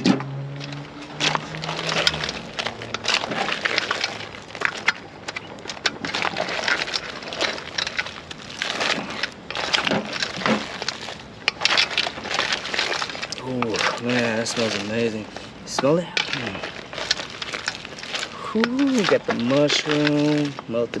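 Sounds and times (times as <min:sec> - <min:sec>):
shells clattering in a pot: 0:00.0 - 0:21.0.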